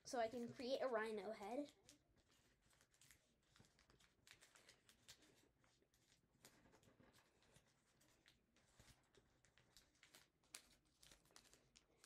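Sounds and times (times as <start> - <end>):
paper being folded and creased: 0.3 - 12.0.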